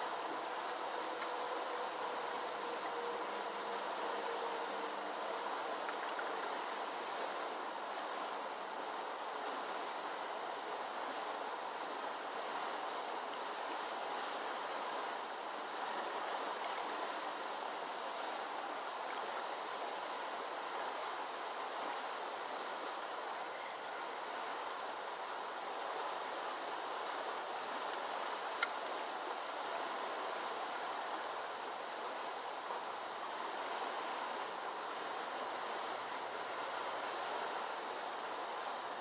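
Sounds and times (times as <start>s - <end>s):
creek water rushing: 0.0s - 39.0s.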